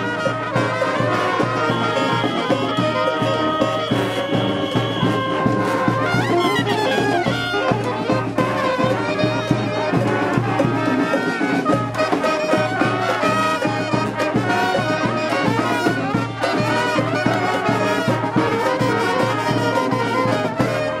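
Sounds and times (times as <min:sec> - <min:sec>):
brass band playing: 0:00.0 - 0:21.0
steady drum beat: 0:00.0 - 0:21.0.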